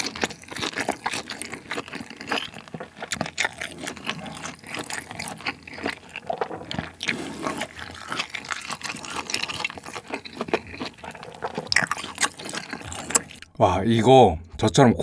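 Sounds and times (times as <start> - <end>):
chewing with mouth clicks and smacks: 0.0 - 13.6.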